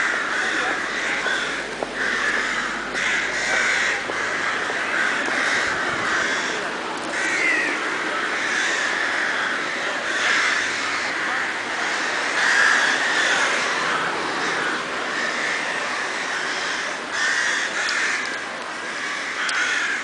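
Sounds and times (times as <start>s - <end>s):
steady rushing noise: 0.0s - 19.4s
harsh animal calls: 0.0s - 20.0s.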